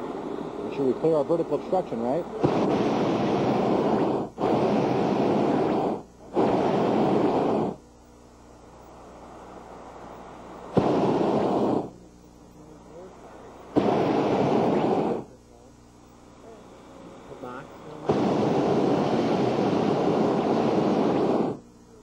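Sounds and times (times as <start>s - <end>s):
propane burner blasts: 0.0s - 22.0s.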